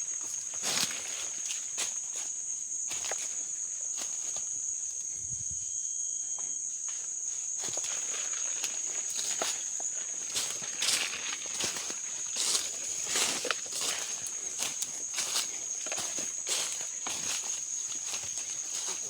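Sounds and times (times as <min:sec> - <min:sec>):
footsteps through undergrowth: 0:00.0 - 0:04.6, 0:06.9 - 0:19.0
high-pitched insect drone: 0:00.0 - 0:19.0.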